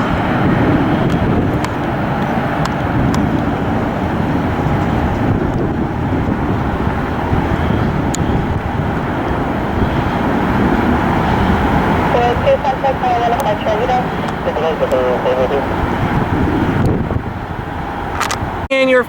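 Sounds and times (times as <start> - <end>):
jet airliner engine rush: 0.0 - 18.7.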